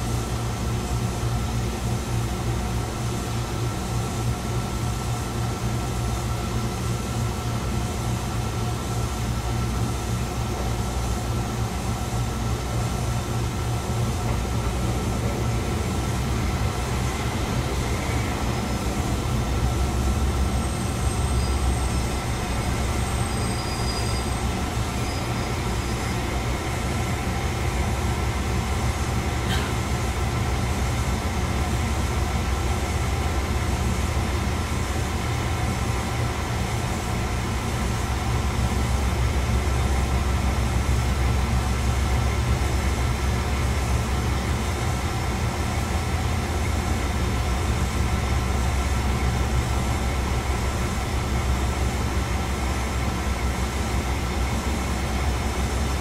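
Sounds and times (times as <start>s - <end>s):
diesel railcar engine hum: 0.0s - 56.0s.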